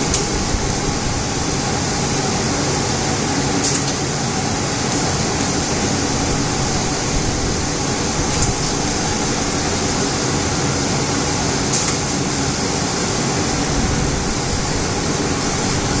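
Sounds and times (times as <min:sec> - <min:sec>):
laser cutter fans rushing: 0:00.0 - 0:16.0.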